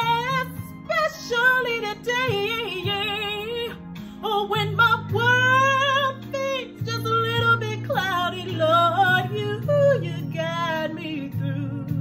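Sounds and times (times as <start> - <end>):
woman singing with vibrato: 0.0 - 12.0.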